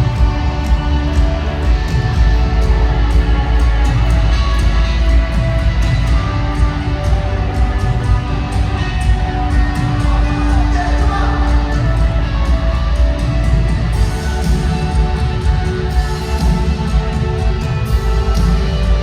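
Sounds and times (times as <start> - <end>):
live rock band playing: 0.0 - 19.0
steady drumbeat: 0.0 - 19.0.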